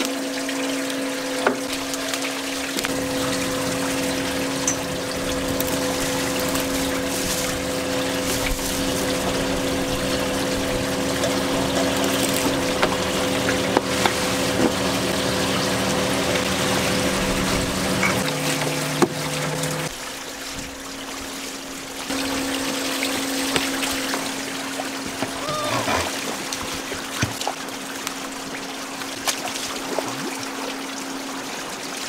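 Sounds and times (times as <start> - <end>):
boat machinery humming: 0.0 - 31.8
water pouring and splashing: 0.0 - 32.0.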